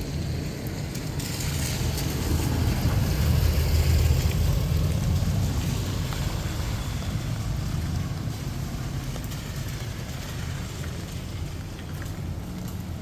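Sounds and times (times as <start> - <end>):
rain hissing: 0.0 - 13.0
vehicle passing on wet street: 0.0 - 13.0.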